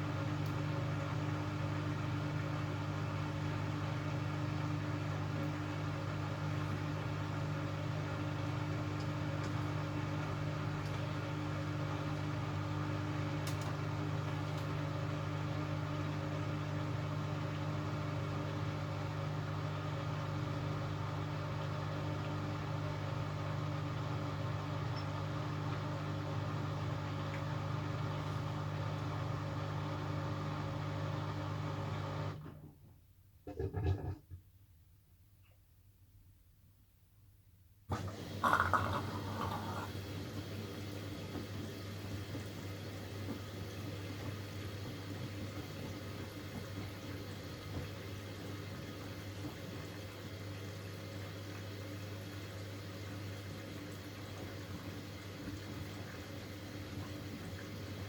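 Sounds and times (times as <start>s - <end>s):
washing machine humming: 0.0s - 34.4s, 37.8s - 58.0s.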